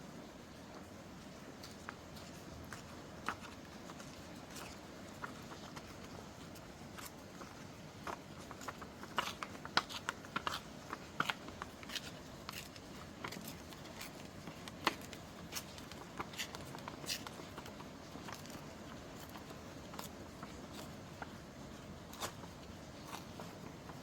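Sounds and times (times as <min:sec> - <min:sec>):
paper rustling and shuffling: 0:01.5 - 0:24.0.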